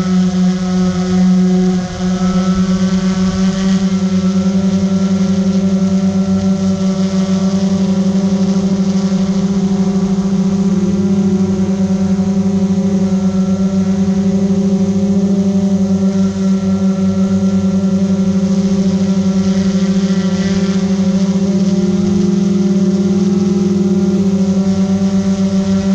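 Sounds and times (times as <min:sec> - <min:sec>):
drone motors humming: 0:00.0 - 0:25.9.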